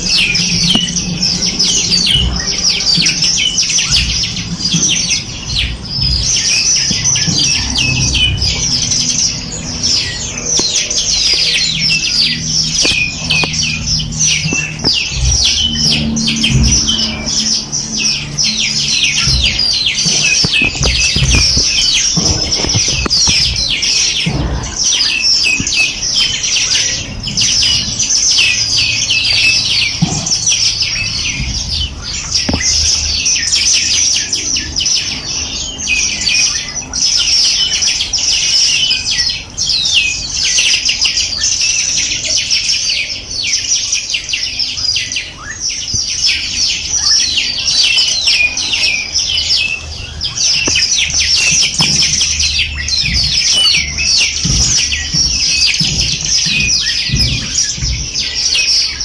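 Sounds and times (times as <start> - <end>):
small birds chirping and trilling: 0.0 - 59.0.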